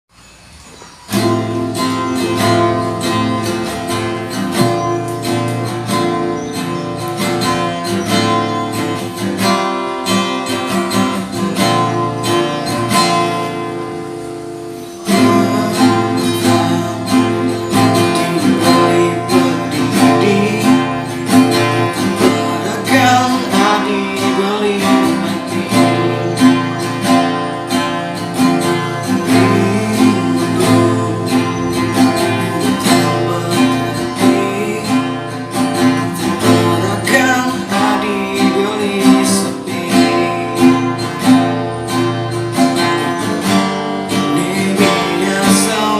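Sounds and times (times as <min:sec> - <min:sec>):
strummed acoustic guitar: 0:00.6 - 0:45.9.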